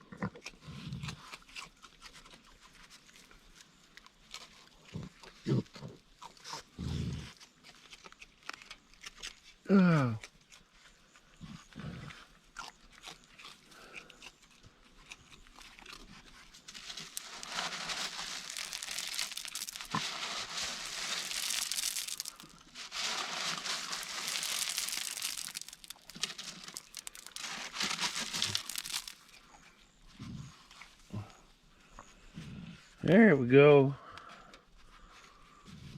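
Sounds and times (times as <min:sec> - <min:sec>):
animals crunching dry food: 0:00.1 - 0:09.6, 0:10.2 - 0:29.6.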